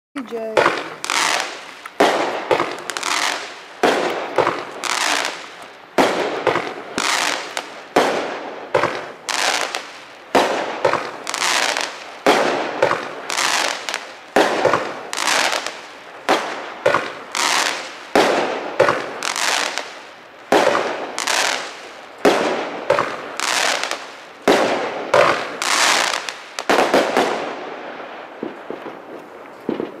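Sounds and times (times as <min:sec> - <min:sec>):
fireworks bangs: 0:00.2 - 0:30.0
fireworks crackling: 0:00.2 - 0:30.0.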